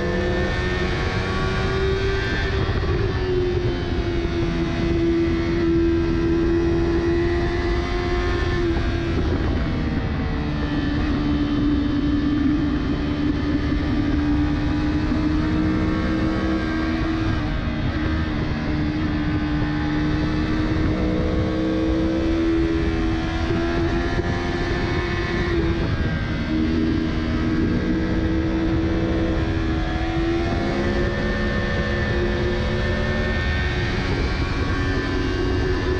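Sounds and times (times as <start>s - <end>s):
motorcycle engine at high revs: 0.0s - 35.9s
wind rush: 0.0s - 35.9s.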